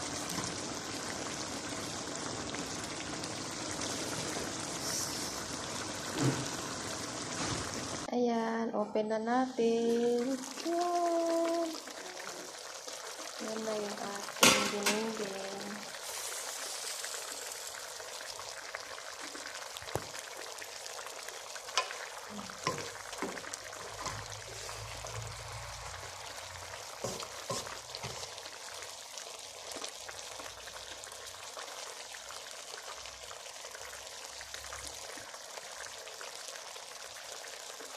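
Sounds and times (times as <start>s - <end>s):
fish sizzling in a pan: 0.0s - 8.1s, 9.6s - 37.9s.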